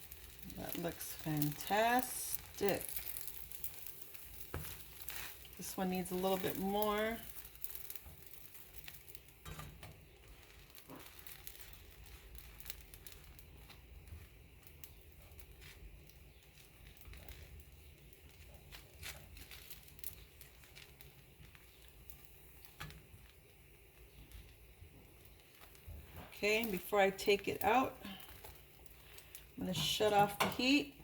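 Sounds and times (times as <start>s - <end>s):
bread sizzling in a pan: 0.0s - 31.0s.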